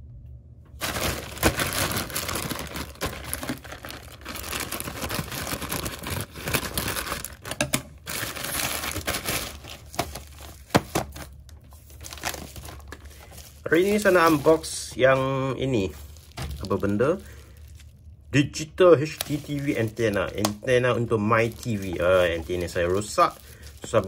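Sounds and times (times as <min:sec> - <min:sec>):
bubble wrap rustling: 0:00.8 - 0:24.0
plastic mailer bag crinkling: 0:00.8 - 0:24.0.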